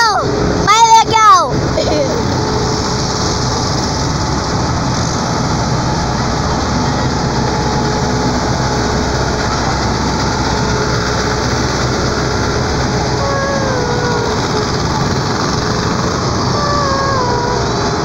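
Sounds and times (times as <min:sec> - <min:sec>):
tractor diesel engines running: 0:00.0 - 0:18.0.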